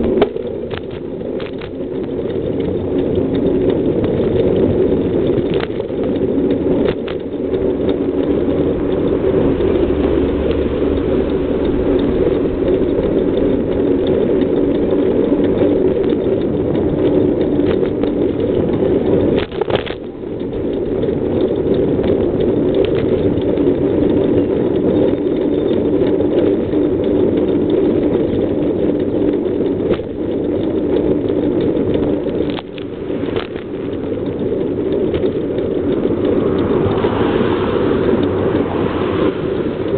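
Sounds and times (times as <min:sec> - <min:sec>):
passing traffic: 0:00.0 - 0:39.9
wind on microphone: 0:00.0 - 0:39.9.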